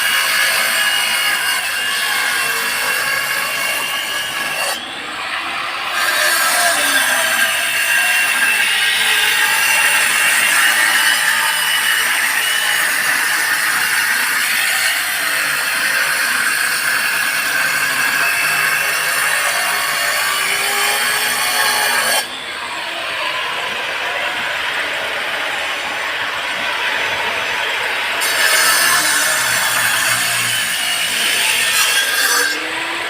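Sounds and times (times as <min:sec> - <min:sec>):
angle grinder cutting plastic pipe: 0:00.0 - 0:22.4, 0:28.2 - 0:33.0.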